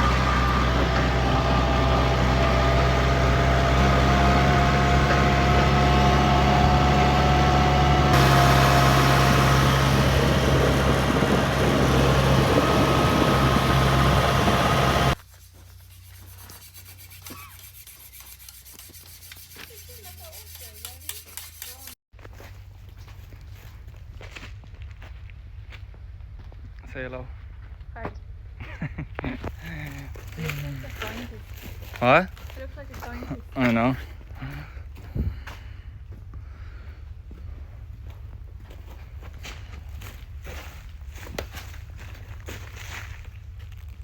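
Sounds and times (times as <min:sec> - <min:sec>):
vehicle engine drone and road noise: 0:00.0 - 0:16.0, 0:22.5 - 0:44.0.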